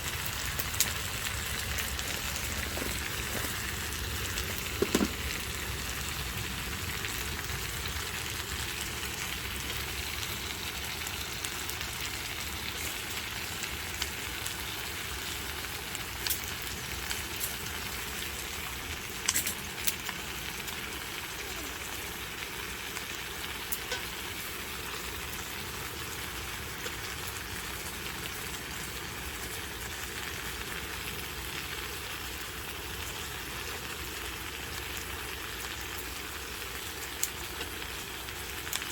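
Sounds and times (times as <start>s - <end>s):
chicken sizzling in a pan: 0.0s - 38.9s.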